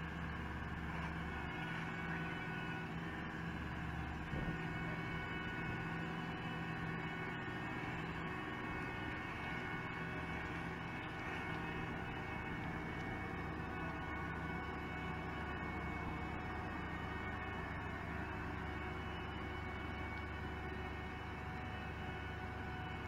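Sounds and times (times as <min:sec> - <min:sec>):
diesel engines running: 0:00.0 - 0:23.0.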